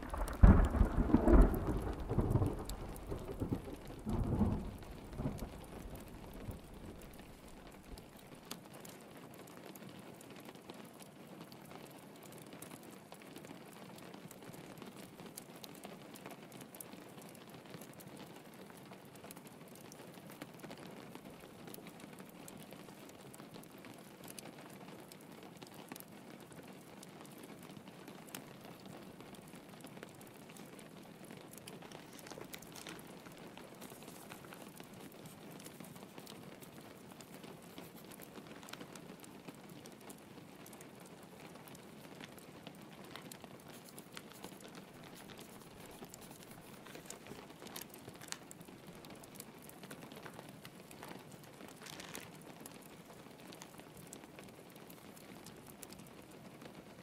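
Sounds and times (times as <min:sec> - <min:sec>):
rain pattering on a window: 0:00.0 - 0:57.0
wood fire crackling and popping: 0:00.0 - 0:57.0.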